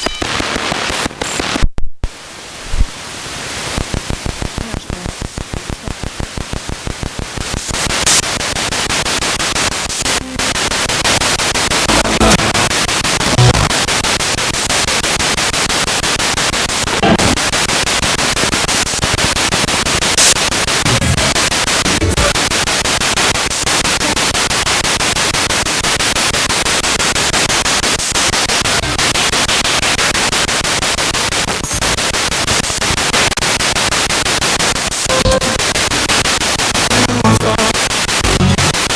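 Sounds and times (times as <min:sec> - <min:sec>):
radio static hiss: 0:00.0 - 0:38.9
snatches of broadcast sound: 0:00.0 - 0:38.9.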